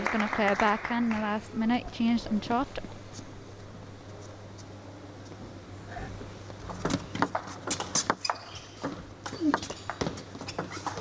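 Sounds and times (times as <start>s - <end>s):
low hall hum: 0.0s - 11.0s.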